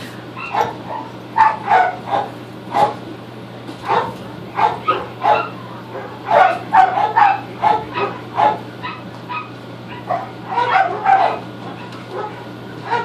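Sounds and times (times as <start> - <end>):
steady low hum: 0.0 - 13.0
pet animal yipping: 0.4 - 2.9, 3.9 - 13.0.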